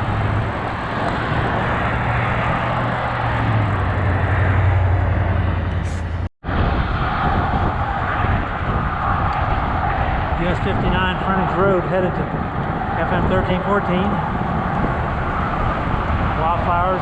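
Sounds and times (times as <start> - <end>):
low hum of road traffic: 0.0 - 17.0
wind rushing over microphone: 0.0 - 17.0.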